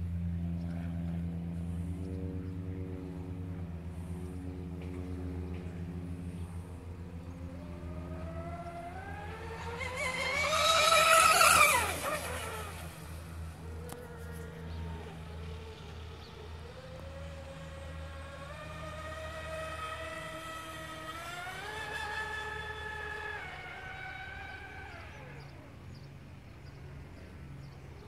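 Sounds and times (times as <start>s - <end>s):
model speedboat motor whine: 0.0s - 28.0s.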